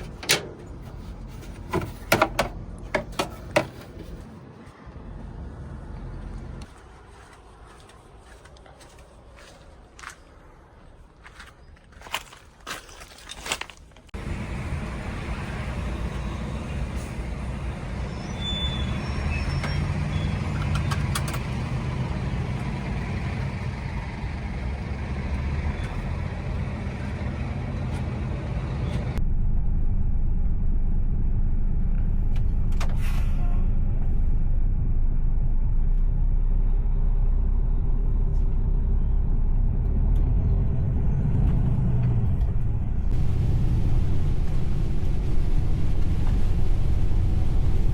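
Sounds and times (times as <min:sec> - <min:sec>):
truck engine and road noise: 0:00.0 - 0:47.9.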